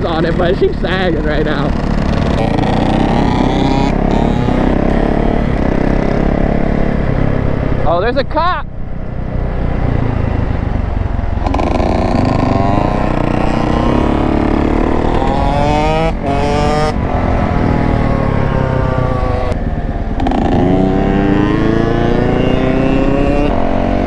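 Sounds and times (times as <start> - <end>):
dirt bike engine accelerating: 0.0 - 24.0
wind rumble on microphone: 0.0 - 24.0.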